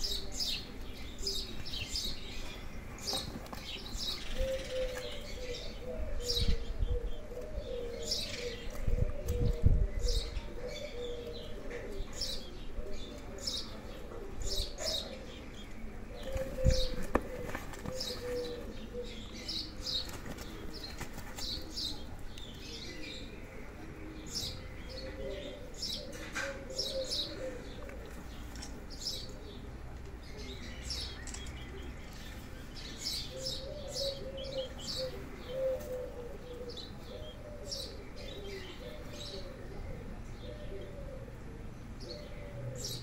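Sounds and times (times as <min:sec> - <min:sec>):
small birds chirping: 0:00.0 - 0:43.0
low wavering cooing: 0:03.9 - 0:32.3, 0:32.9 - 0:43.0.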